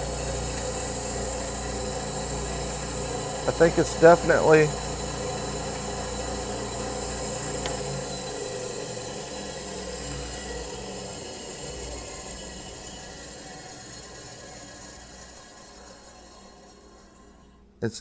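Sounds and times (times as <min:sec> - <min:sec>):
bandsaw motor winding down: 0:00.0 - 0:17.6.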